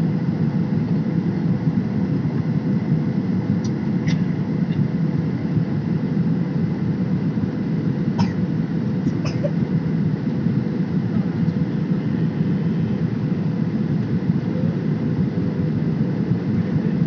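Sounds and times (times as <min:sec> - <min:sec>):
jet engine drone: 0:00.0 - 0:17.0.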